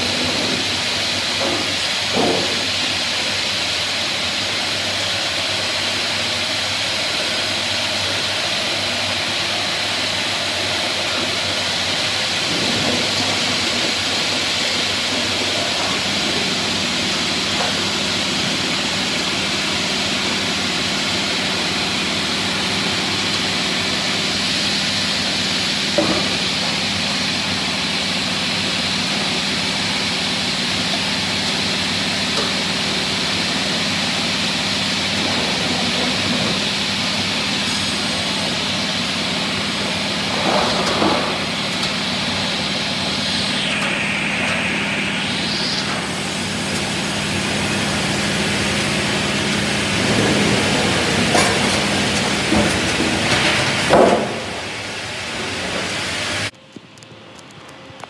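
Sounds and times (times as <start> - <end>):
sawmill machinery din: 0.0 - 56.6.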